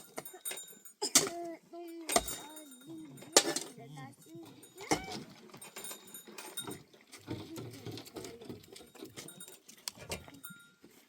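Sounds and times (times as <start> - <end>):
livestock hooves knocking and clicking: 0.0 - 1.0, 2.1 - 11.0.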